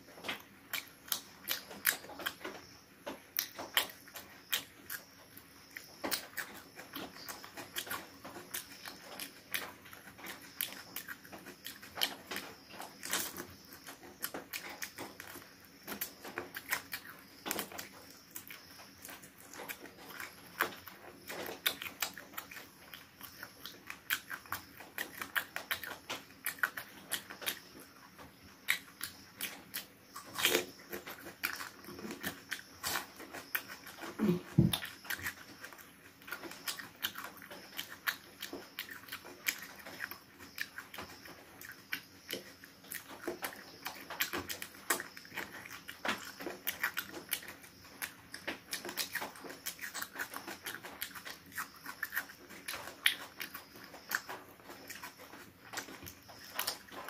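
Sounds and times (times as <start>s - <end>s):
open-mouthed chewing and smacking: 0.0s - 57.0s.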